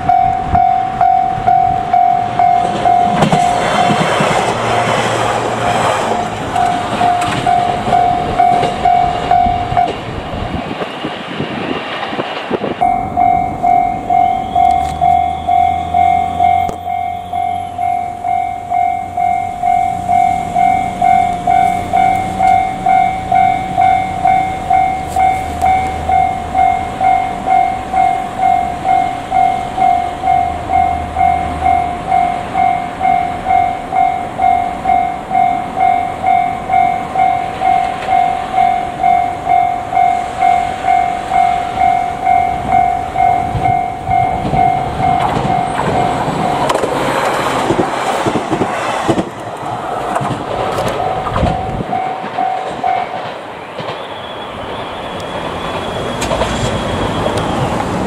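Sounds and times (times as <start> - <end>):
level-crossing alarm ringing: 0.0 - 10.0, 12.8 - 48.4, 50.7 - 57.9
electric train rumbling past: 0.0 - 58.0.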